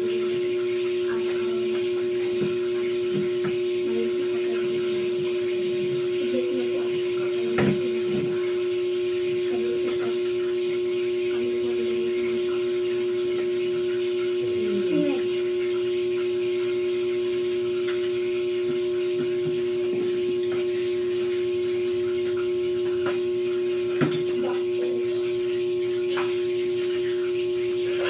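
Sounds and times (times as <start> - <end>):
loud steady hum: 0.0 - 28.0.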